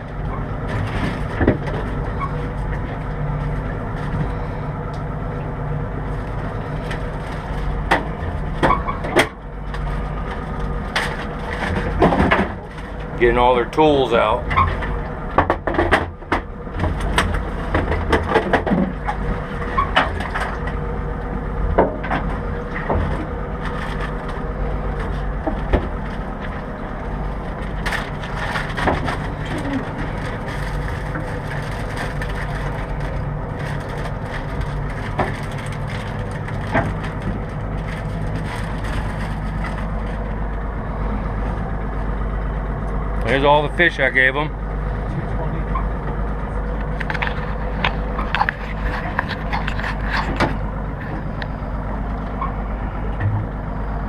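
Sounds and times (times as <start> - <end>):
boat engine idling: 0.0 - 54.0.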